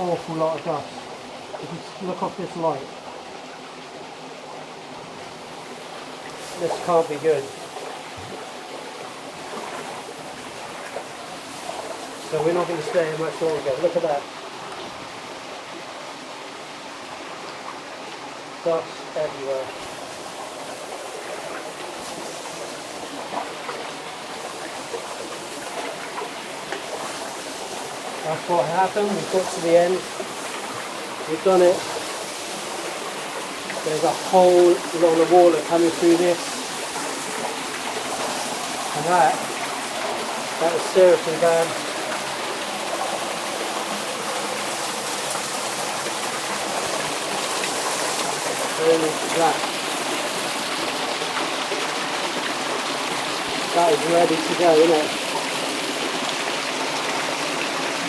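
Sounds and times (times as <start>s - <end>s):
water rushing through tunnel: 0.0s - 58.0s.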